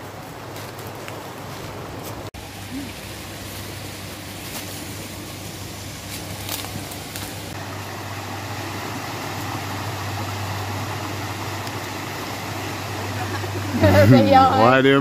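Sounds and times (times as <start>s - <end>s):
river water rushing: 1.3s - 14.8s.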